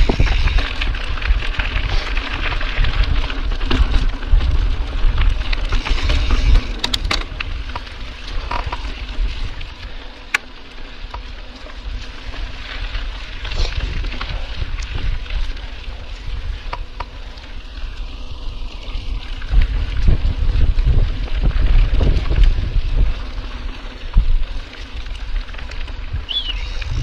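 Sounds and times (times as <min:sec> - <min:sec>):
bike clicks and rattles: 0:00.0 - 0:27.0
bike tyre noise: 0:00.0 - 0:27.0
wind rumbling on microphone: 0:00.0 - 0:27.0.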